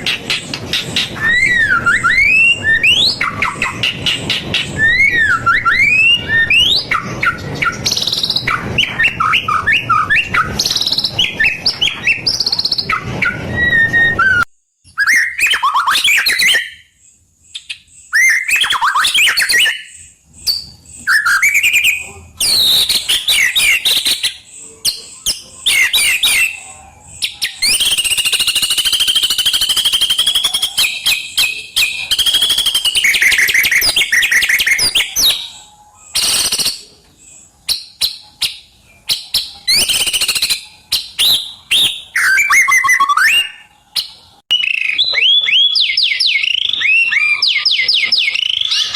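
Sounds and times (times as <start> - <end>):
bird singing whistles and trills: 0.0 - 48.9.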